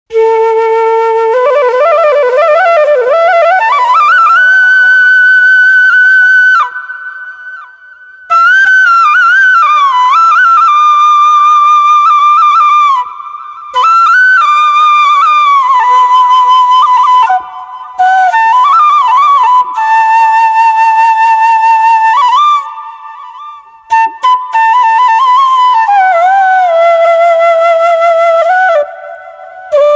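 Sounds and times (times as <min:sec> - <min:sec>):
solo flute melody: 0:00.1 - 0:29.9.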